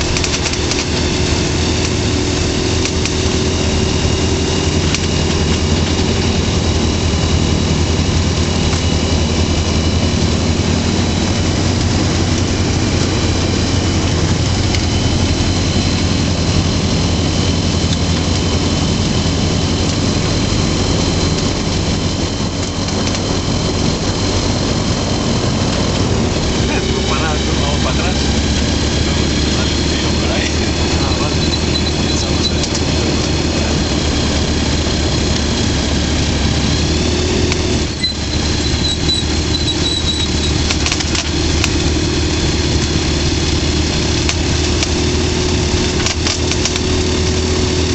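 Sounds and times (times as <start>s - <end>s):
aircraft engine running: 0.0s - 47.9s.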